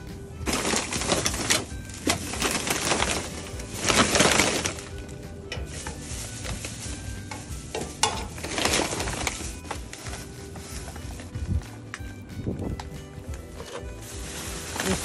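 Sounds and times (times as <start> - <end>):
plastic bags rustling: 0.0 - 15.0.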